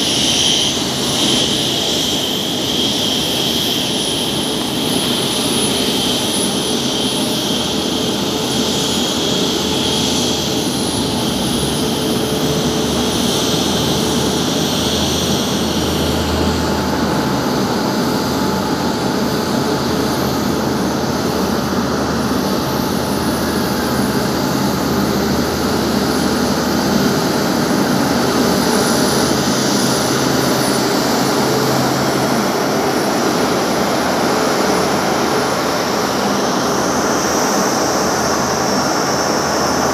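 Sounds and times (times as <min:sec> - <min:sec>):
jet engines roaring: 0:00.0 - 0:39.9
high whine: 0:06.4 - 0:39.9.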